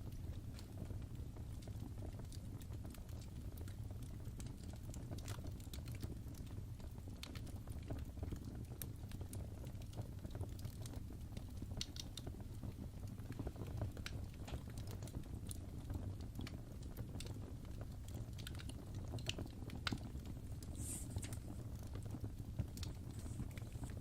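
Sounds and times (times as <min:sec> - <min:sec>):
fire crackling and popping: 0:00.0 - 0:24.0
low steady fire rumble: 0:00.0 - 0:24.0.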